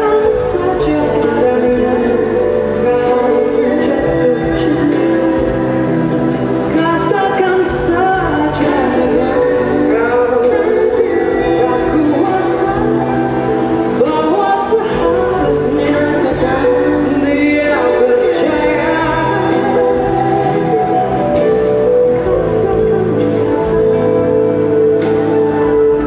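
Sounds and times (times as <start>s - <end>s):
jazz-pop band playing: 0.0s - 26.0s
woman singing: 0.0s - 26.0s.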